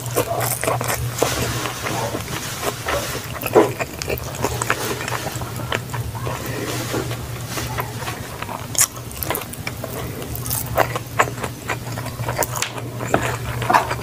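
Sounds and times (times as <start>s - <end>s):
person chewing with wet smacking: 0.0s - 14.0s.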